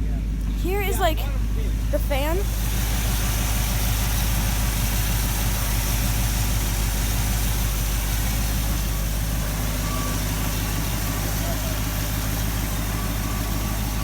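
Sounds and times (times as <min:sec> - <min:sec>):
car engine idling: 0:00.0 - 0:14.0
car ventilation fan blowing: 0:00.0 - 0:14.0.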